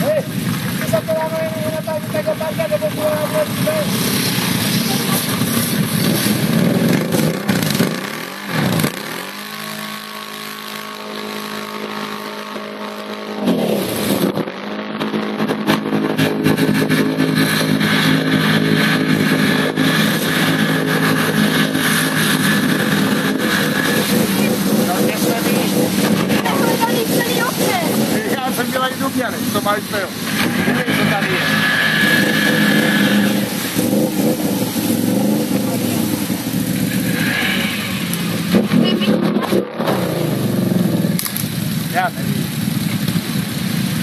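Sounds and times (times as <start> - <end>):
quad bike engines revving: 0.0 - 44.0
water splashing and churning: 0.0 - 44.0.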